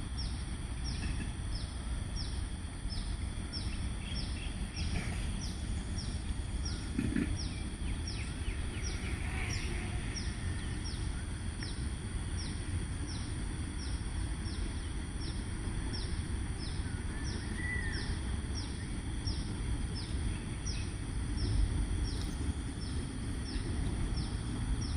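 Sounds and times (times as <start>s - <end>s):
steady high whine: 0.0s - 24.9s.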